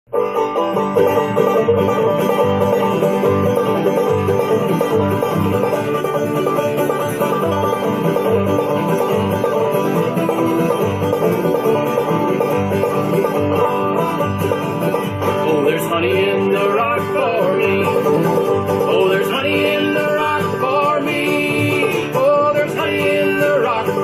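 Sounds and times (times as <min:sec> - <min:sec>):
banjo: 0:00.1 - 0:24.0
bass low notes: 0:00.1 - 0:24.0
guitar: 0:00.1 - 0:24.0.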